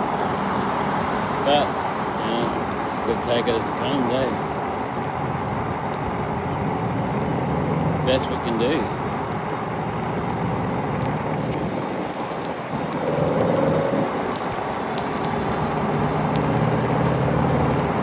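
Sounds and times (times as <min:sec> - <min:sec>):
motorbike engine hum: 0:00.0 - 0:18.0
rain and wind on microphone: 0:00.0 - 0:18.0
raindrop ticks: 0:00.0 - 0:18.0.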